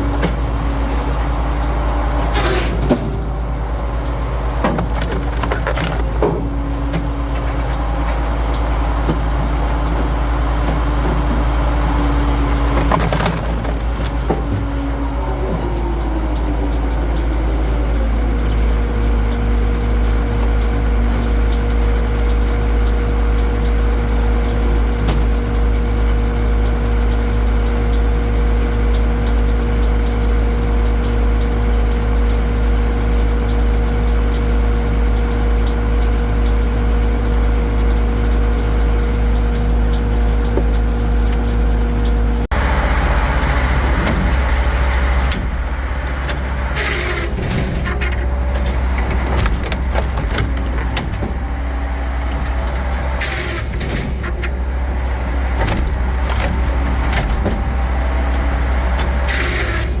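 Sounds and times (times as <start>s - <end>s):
machine engine humming: 0.0s - 60.0s.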